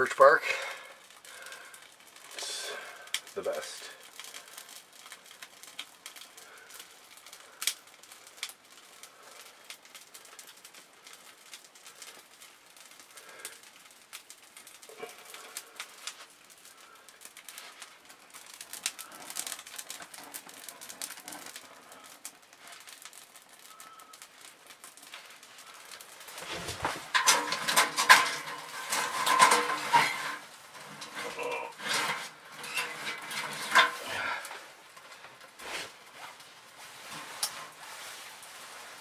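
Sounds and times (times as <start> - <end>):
bark burning and crackling: 0.0 - 39.0
sharp fire pops: 0.0 - 39.0.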